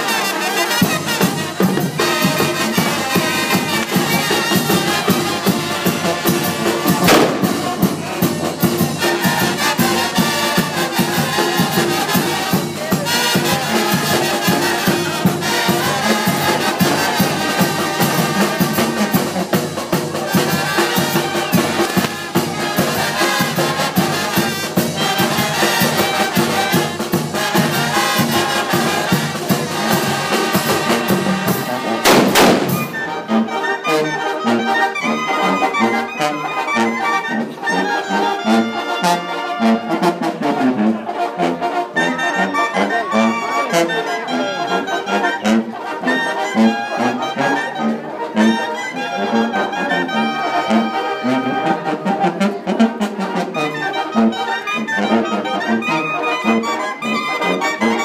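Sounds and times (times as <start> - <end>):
brass band playing dance music: 0.0 - 58.0.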